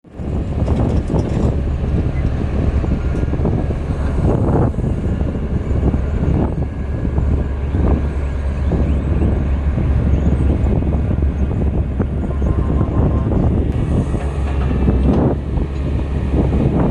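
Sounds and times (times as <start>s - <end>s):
diesel machinery engine drone: 0.0s - 16.9s.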